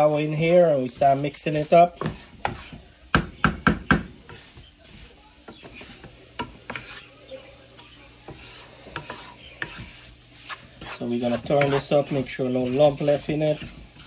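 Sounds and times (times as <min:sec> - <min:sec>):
wooden spoon scraping frying pan: 0:00.0 - 0:14.0.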